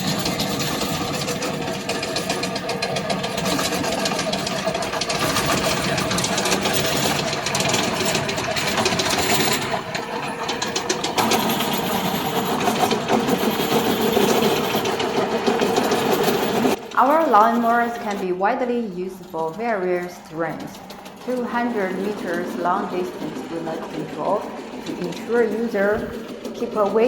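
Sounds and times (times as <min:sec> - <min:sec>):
lawn mower engine rattling: 0:00.0 - 0:27.0.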